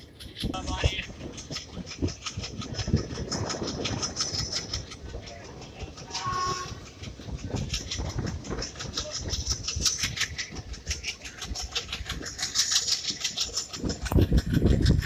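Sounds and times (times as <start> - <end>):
rushing train noise: 0.0 - 15.0
wheels clicking and rattling on track: 0.0 - 15.0.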